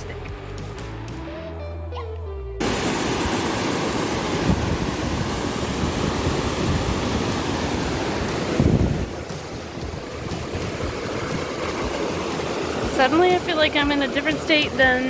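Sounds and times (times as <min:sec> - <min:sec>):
wind buffeting microphone: 0:02.6 - 0:15.0.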